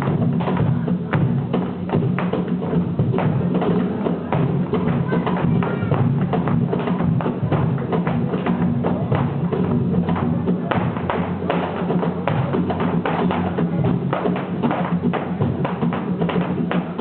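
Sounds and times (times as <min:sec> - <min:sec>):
flamenco percussive taps: 0:00.0 - 0:17.0.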